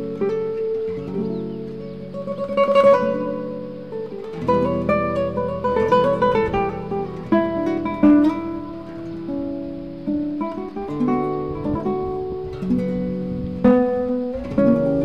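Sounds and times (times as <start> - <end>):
solo acoustic guitar: 0.0 - 15.0.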